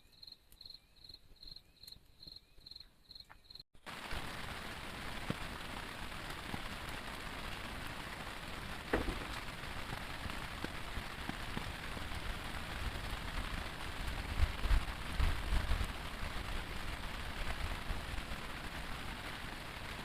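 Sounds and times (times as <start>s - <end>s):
heavy rain falling: 3.8s - 20.0s.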